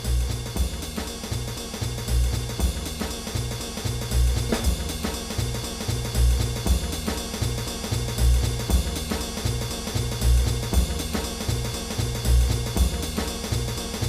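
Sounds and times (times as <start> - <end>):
music with drum beat: 0.0 - 14.0
pulsing bass line: 0.0 - 14.0.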